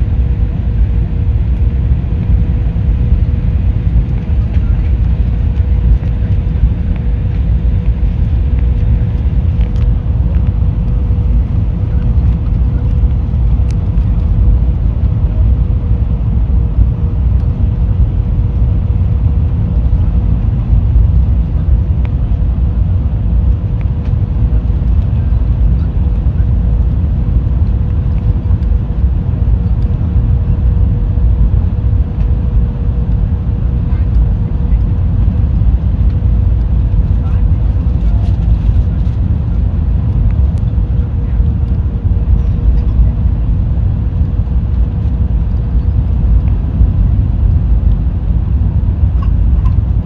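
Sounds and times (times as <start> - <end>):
jet engine and airflow rumble: 0.0 - 50.0.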